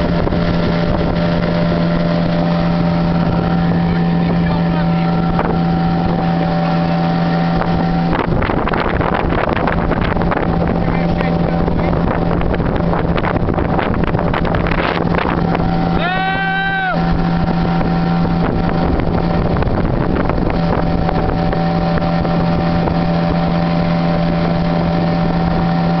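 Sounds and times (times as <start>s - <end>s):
boat engine humming: 0.0s - 26.0s
water noise: 0.0s - 26.0s
wind: 0.0s - 26.0s.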